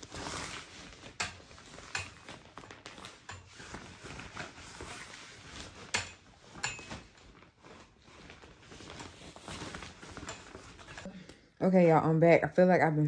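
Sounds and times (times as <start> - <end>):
fabric rustling: 0.0 - 11.1.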